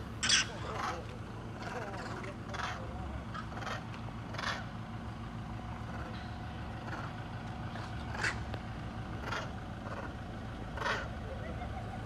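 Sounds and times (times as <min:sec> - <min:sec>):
low motor rumble: 0:00.0 - 0:12.0.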